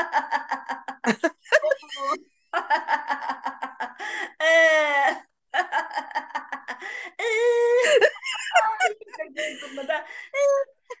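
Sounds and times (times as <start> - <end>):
woman laughing: 0.0 - 11.0.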